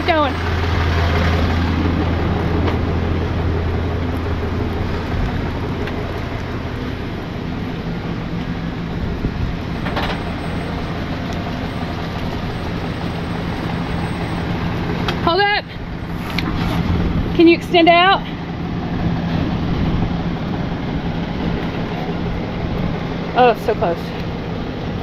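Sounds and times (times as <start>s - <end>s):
tow truck engine humming: 0.0s - 25.0s.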